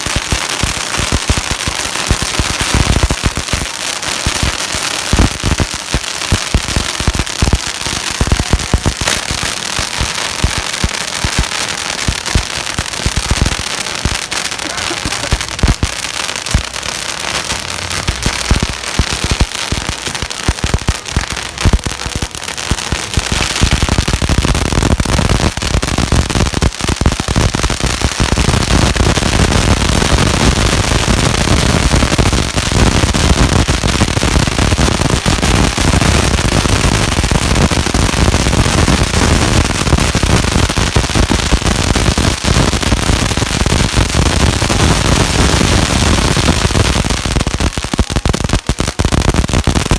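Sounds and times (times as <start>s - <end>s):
firecrackers cracking: 0.0s - 49.9s.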